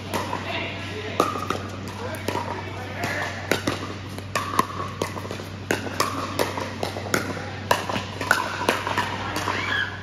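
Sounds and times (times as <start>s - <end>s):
ball bouncing on court: 0.0s - 9.9s.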